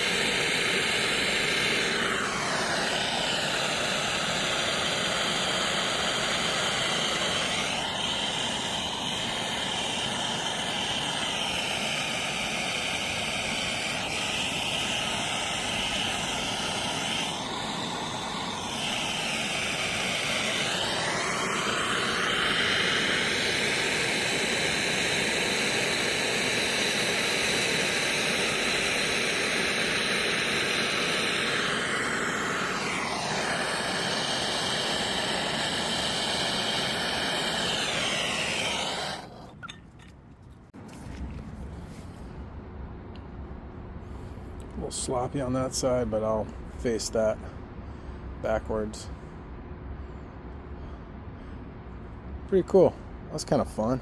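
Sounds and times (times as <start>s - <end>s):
gas torch roaring hiss: 0.0s - 39.8s, 44.4s - 47.5s, 48.4s - 49.3s.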